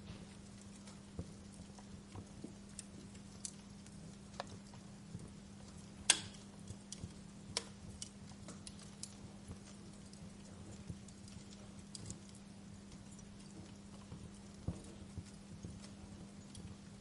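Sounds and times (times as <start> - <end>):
low steady hum: 0.0 - 17.0
wood fire crackling: 0.0 - 17.0.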